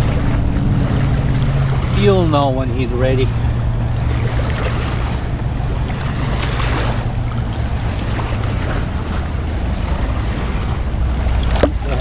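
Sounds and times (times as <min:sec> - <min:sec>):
water lapping at shore: 0:00.0 - 0:12.0
wind rumble on microphone: 0:00.0 - 0:12.0.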